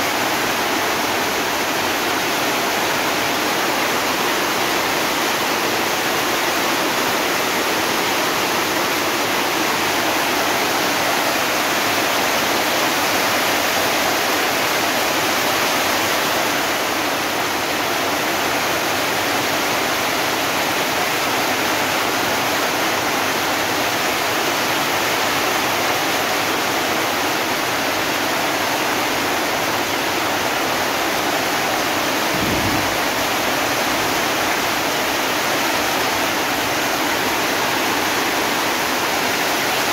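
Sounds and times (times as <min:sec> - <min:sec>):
heavy rain on tin roofs: 0:00.0 - 0:39.9.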